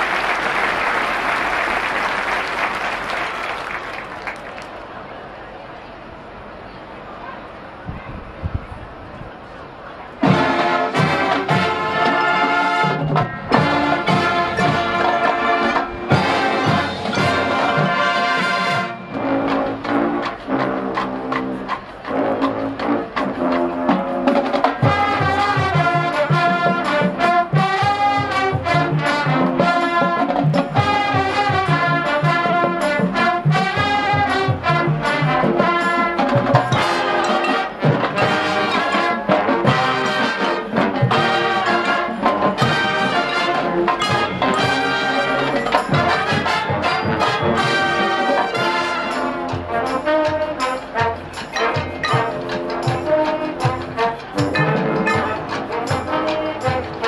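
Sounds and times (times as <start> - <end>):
marching band playing jazz: 0.0 - 4.7, 10.2 - 57.0.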